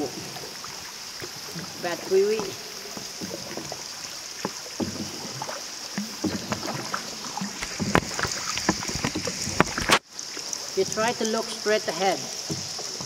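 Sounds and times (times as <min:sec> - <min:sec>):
paddle knocks and water splashes: 0:00.0 - 0:13.0
steady hiss: 0:00.0 - 0:13.0.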